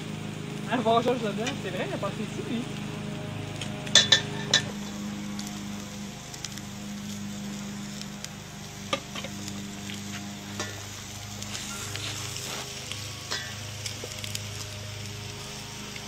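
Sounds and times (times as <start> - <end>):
steaks sizzling on a grill: 0.0 - 16.0
small crackles: 2.7 - 16.0.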